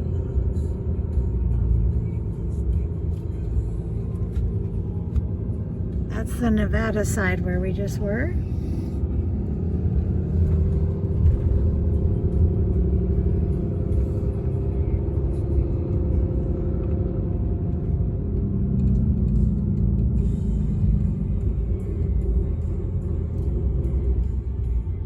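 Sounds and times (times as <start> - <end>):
truck engine and tyres rumbling: 0.0 - 25.0.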